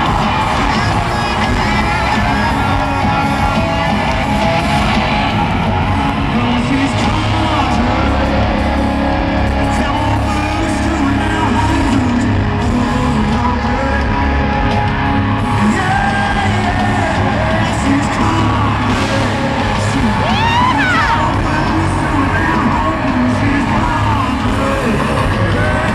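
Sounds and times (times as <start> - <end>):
country rock band playing: 0.0 - 25.9
crowd voices: 0.0 - 25.9
person singing: 0.0 - 25.9.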